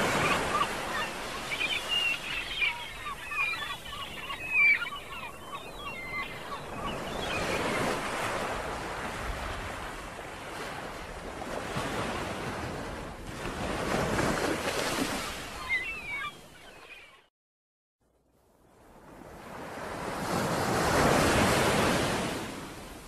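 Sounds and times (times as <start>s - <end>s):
ocean waves breaking: 0.0s - 16.8s, 18.7s - 23.0s.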